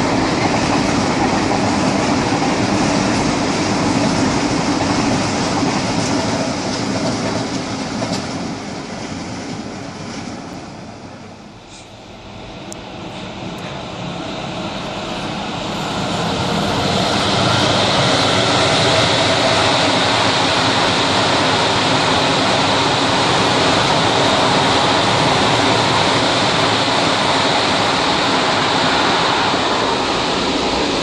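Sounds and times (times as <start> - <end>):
train wheels roaring on rails: 0.0 - 31.0.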